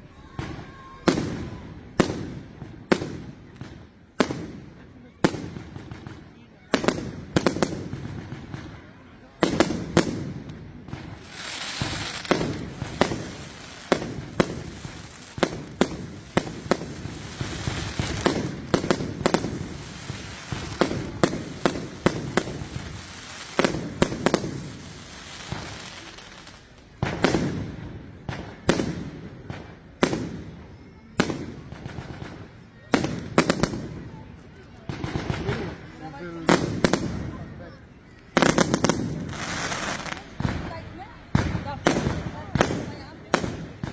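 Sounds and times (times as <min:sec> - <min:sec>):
firework crackle and hiss: 0:00.0 - 0:43.9
firework bangs: 0:00.1 - 0:43.9.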